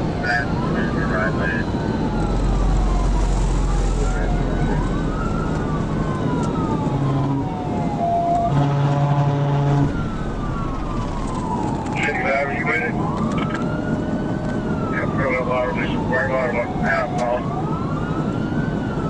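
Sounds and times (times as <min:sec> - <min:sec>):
car engine and road noise: 0:00.0 - 0:19.0
police siren wailing: 0:00.0 - 0:19.0.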